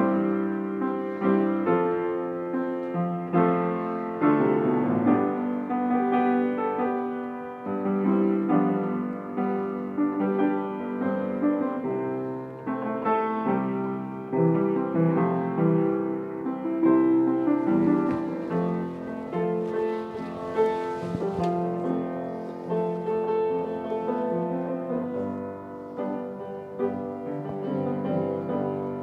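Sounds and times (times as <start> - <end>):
player piano playing: 0.0 - 29.0.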